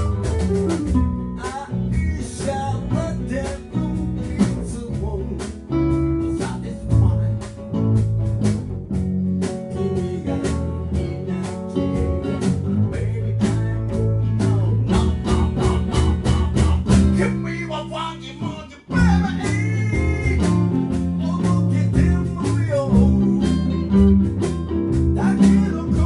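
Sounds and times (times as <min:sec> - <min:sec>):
blues-rock guitar band: 0:00.0 - 0:26.0.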